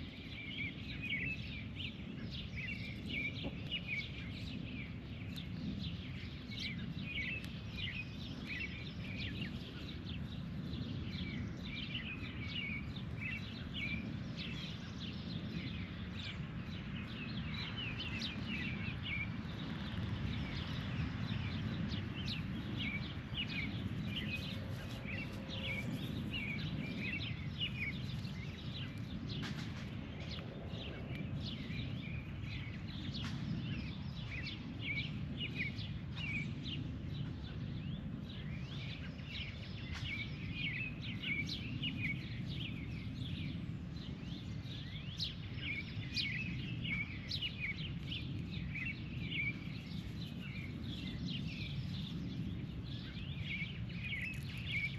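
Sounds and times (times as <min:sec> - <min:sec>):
birds chirping: 0:00.0 - 0:54.9
low background rumble: 0:00.0 - 0:54.9.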